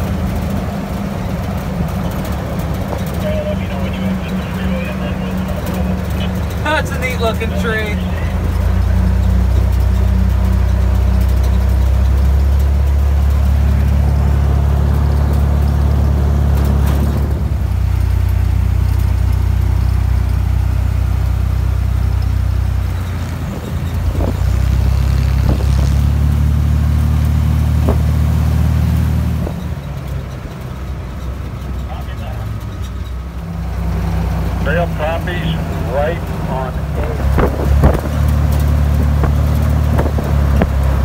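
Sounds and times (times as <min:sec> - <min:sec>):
jeep engine running: 0:00.0 - 0:41.0
road and wind noise: 0:00.0 - 0:41.0.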